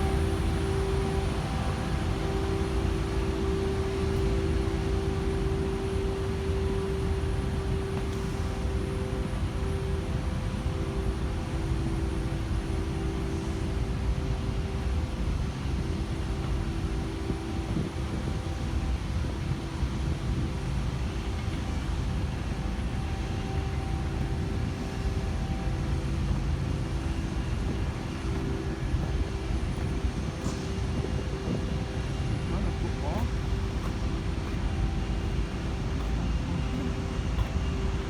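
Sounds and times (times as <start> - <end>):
faint constant hum: 0.0 - 38.0.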